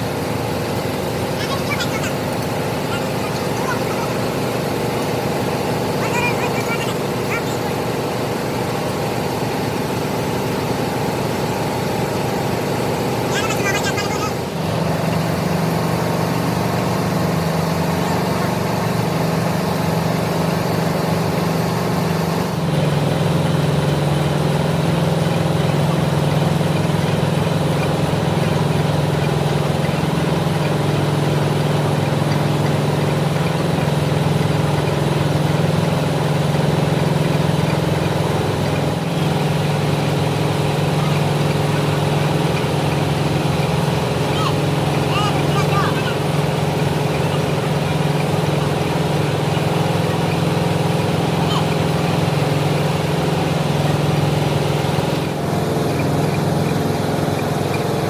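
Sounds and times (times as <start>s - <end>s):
heavy machinery humming: 0.0s - 58.0s.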